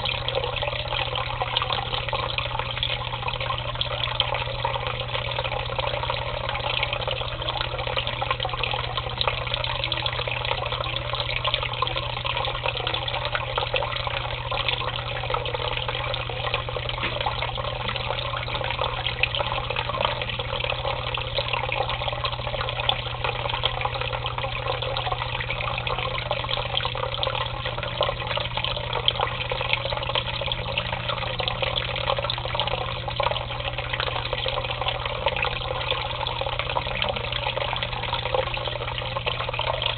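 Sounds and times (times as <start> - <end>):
water pouring into a tub: 0.0 - 39.9.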